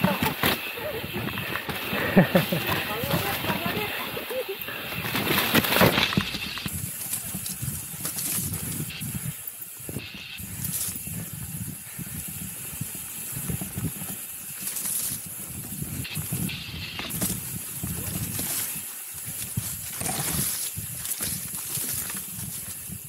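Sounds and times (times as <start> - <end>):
tyres crunching over dirt: 0.0 - 9.3, 13.1 - 23.0
bike rattling: 0.0 - 23.0
wind on microphone: 0.0 - 23.0.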